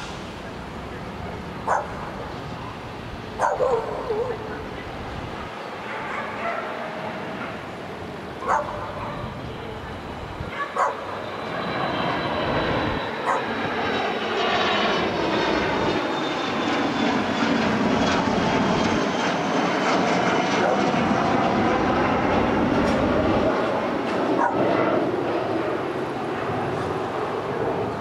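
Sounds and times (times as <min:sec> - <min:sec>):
jet engine roar with whine: 0:00.0 - 0:28.0.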